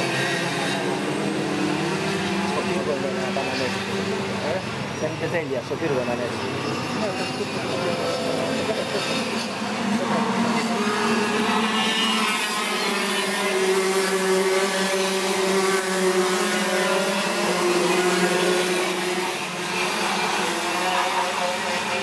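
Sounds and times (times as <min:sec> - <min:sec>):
kart engines buzzing at high revs: 0:00.0 - 0:22.0.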